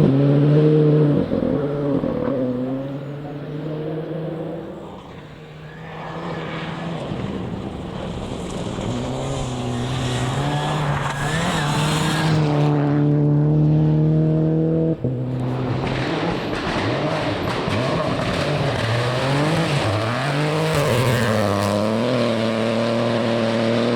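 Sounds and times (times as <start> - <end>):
rally car engine at full throttle: 0.0 - 23.9.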